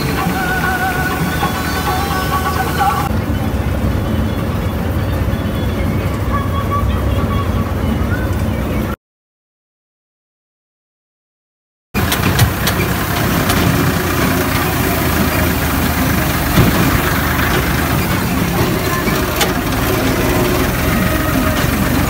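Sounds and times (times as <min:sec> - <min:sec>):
diesel tractor engine running: 0:00.0 - 0:09.0, 0:12.0 - 0:22.0.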